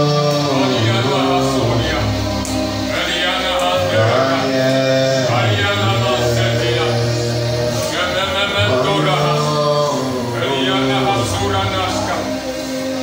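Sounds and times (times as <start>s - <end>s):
instrumental accompaniment: 0.0s - 13.0s
man singing long notes: 0.0s - 13.0s.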